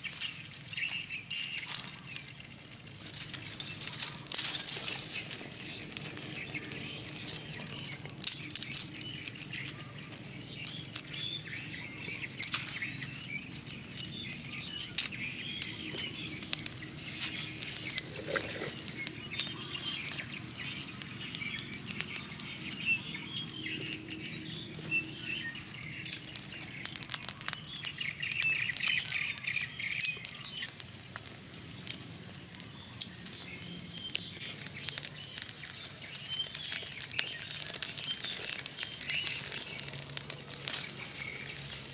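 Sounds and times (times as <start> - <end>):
birds chirping: 0.0 - 41.9
dry sticks rustling: 0.0 - 41.9
fire crackling and snapping: 0.0 - 41.9.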